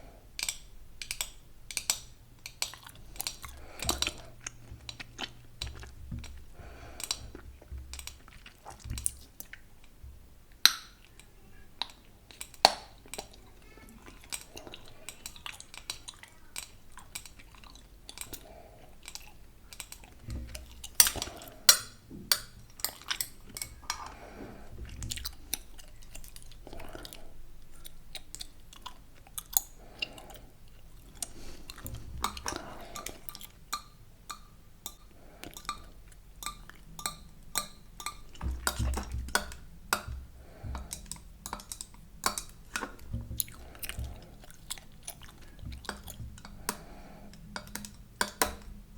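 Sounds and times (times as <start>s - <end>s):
gum chewing mouth clicks: 0.4s - 9.9s, 14.1s - 48.8s.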